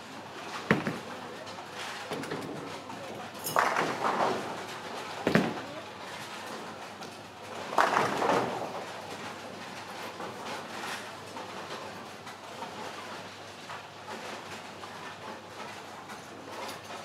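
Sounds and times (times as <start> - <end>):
hum of large hall: 0.0 - 16.9.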